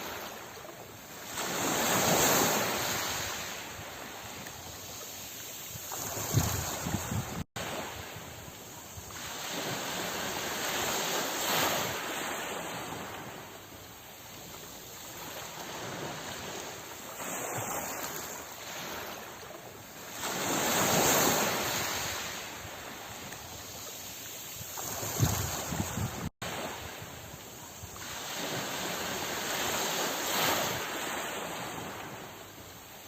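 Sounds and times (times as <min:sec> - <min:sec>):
sea waves breaking: 0:00.0 - 0:33.0.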